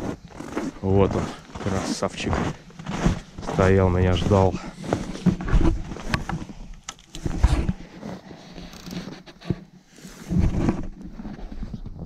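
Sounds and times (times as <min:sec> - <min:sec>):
footsteps in snow: 0:00.0 - 0:11.6.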